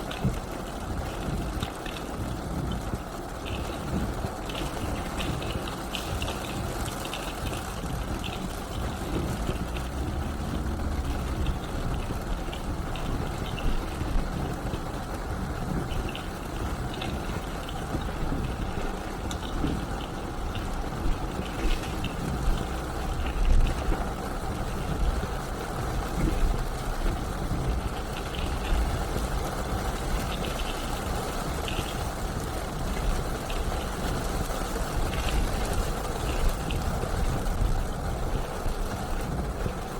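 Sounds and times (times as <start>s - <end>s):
car engine and road rumble: 0.0s - 39.9s
tyres hissing on wet pavement: 0.0s - 39.9s.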